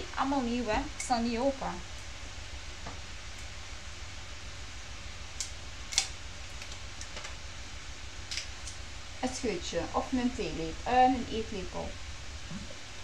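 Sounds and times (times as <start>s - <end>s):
steady hiss and low hum: 0.0s - 13.0s.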